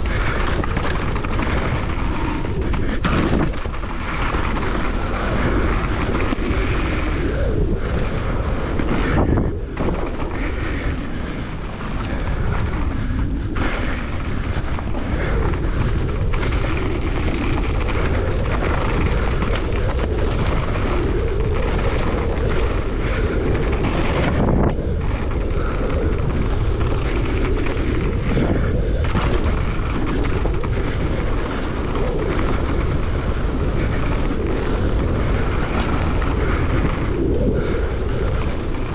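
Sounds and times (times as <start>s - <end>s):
bike clattering over dirt: 0.0s - 38.9s
wind rushing over microphone: 0.0s - 38.9s.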